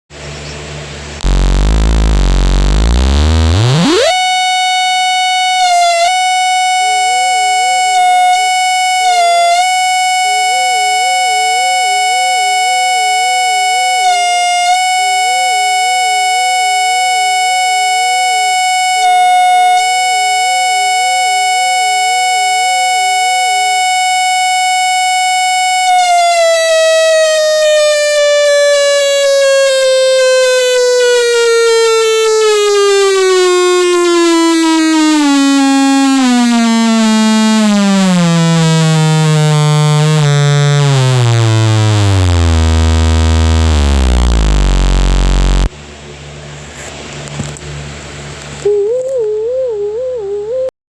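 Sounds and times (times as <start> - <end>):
lower warbling siren tone: 1.2 - 45.7
siren wailing: 1.2 - 45.7.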